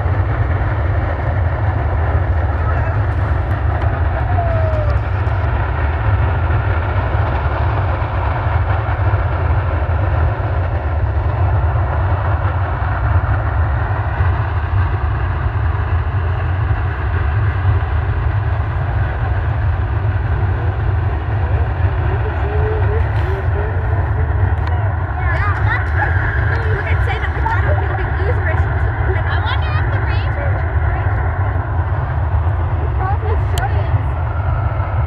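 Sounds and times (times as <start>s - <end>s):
geyser deep rumble: 0.0s - 35.0s.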